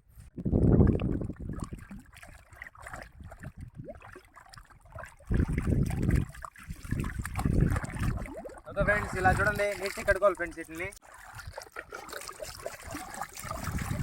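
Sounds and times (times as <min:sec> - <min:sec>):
water splashing and sloshing: 0:00.1 - 0:14.0.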